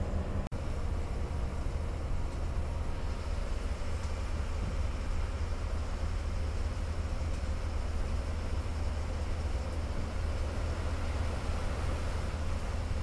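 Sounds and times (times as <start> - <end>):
bus engine rumble and road noise: 0.0 - 13.0.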